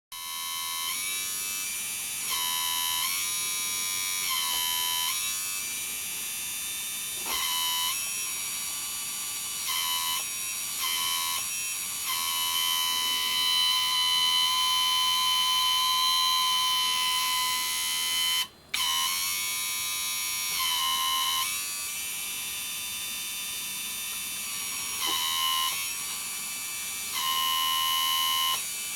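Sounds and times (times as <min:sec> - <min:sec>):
electric hydraulic pump whining: 0:00.2 - 0:28.9.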